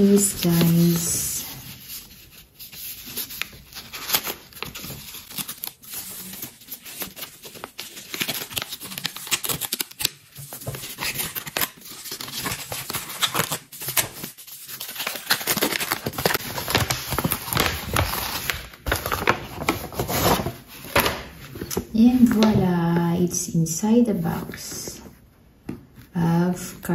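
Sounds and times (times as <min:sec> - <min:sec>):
paper packaging rustling and tearing: 0:00.0 - 0:23.2.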